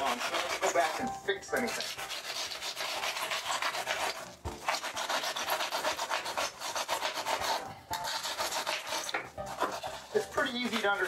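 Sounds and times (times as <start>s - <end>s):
saw cutting foam board: 0.0s - 11.0s.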